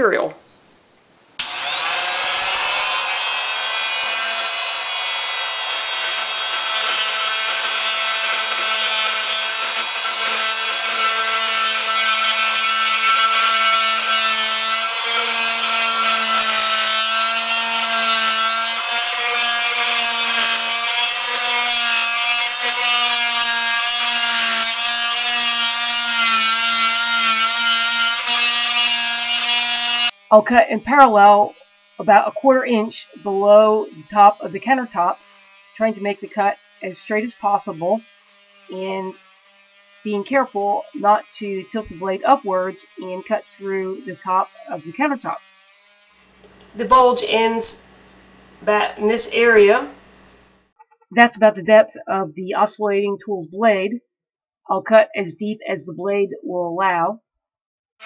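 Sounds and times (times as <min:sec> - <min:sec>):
oscillating multi-tool cutting board: 0:01.4 - 0:48.7.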